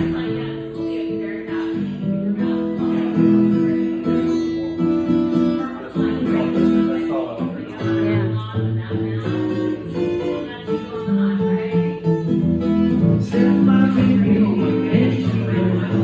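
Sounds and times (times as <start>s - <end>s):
guitar chords: 0.0s - 16.0s.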